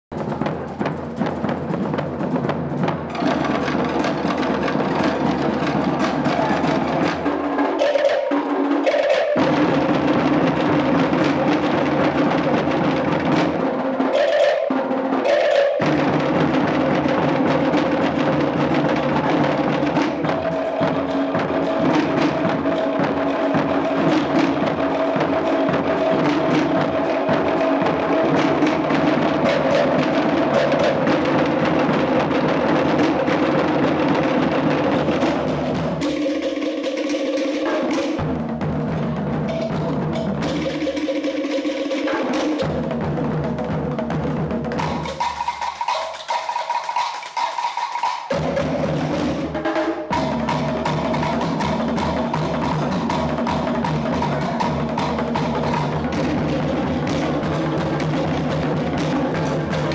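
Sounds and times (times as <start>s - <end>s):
hand drums beating: 0.1s - 59.9s.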